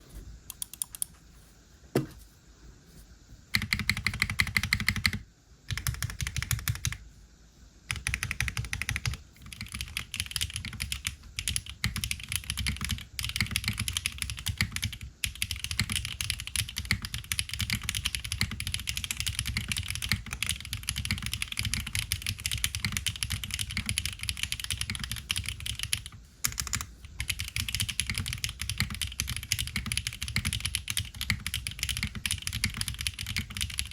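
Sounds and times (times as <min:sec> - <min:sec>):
mechanical keyboard typing: 0:00.5 - 0:01.1, 0:03.6 - 0:07.0, 0:07.9 - 0:33.9.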